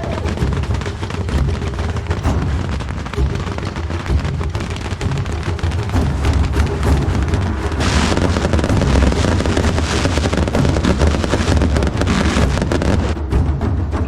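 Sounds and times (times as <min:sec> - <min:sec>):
fireworks crackling: 0:00.0 - 0:13.2
low rumble: 0:00.0 - 0:14.0.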